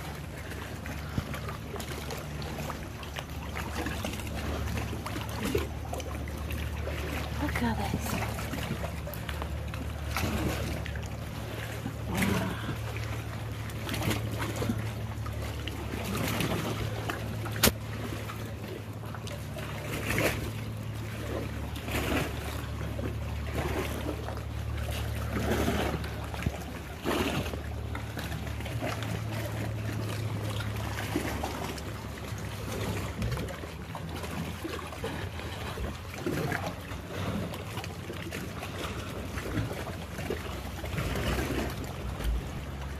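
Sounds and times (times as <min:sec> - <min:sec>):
low hum: 0:00.0 - 0:42.9
paddle strokes splashing water: 0:00.0 - 0:42.9
water trickling off paddle: 0:00.0 - 0:42.9.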